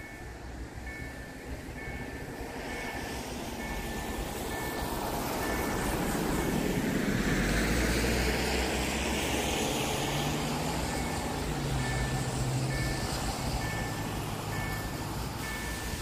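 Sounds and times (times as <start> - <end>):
low engine hum of traffic: 0.0 - 16.0
tyre hiss on wet road: 2.5 - 16.0.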